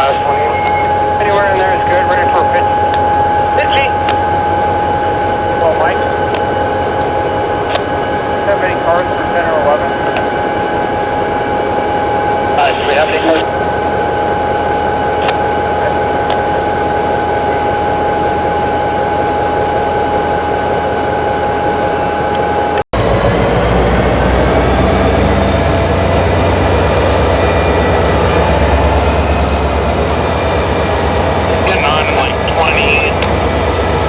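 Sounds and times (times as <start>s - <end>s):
constant whine: 0.0s - 34.0s
diesel locomotive engine rumble: 0.0s - 34.0s.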